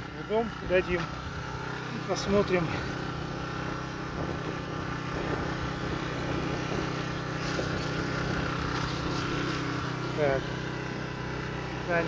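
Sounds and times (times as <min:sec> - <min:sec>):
petrol generator running: 0:00.0 - 0:12.0.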